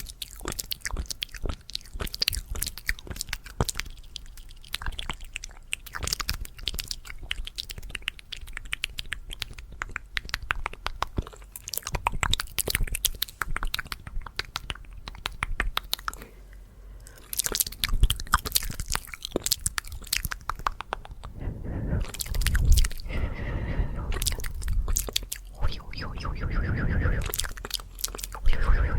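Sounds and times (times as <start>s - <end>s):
mouth clicks and lip smacks: 0.0s - 28.9s.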